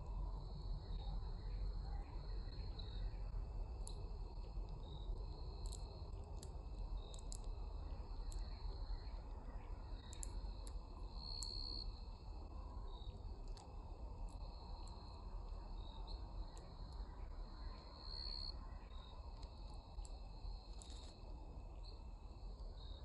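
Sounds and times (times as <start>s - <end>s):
low outdoor rumble: 0.0s - 23.0s
insects trilling: 0.1s - 23.0s.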